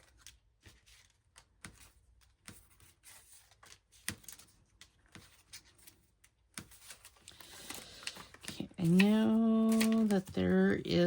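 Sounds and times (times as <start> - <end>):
paper labels clicking and tapping: 0.0 - 11.0.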